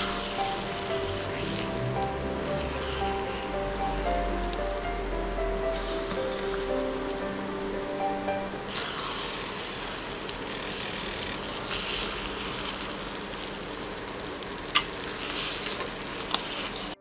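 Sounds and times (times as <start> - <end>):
egg and tomato sizzling in pan: 0.0 - 5.1, 5.7 - 7.2, 8.7 - 17.0.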